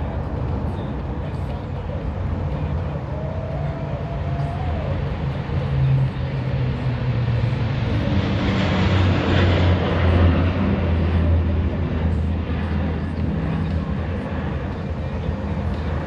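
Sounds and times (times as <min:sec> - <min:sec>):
turboprop aircraft droning overhead: 0:00.0 - 0:16.0.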